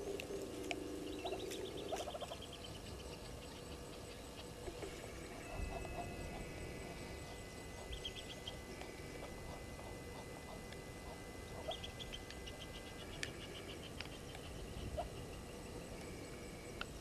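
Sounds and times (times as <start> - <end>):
birds calling high notes: 0.0 - 17.0
steady high-pitched tone: 0.0 - 17.0.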